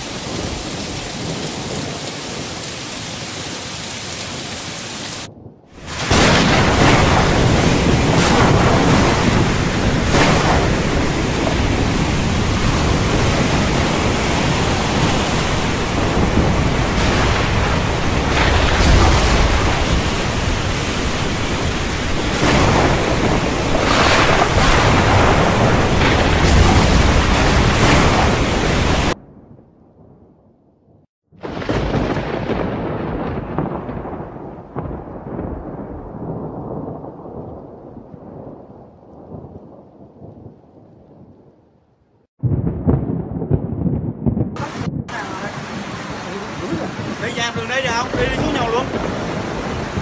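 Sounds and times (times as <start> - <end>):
deep thunder rumbles: 0.0 - 2.9, 5.2 - 41.7, 42.4 - 50.0
wind and rain rushing: 0.0 - 30.2, 31.4 - 50.0
thunder cracks: 5.2 - 41.4, 42.4 - 50.0.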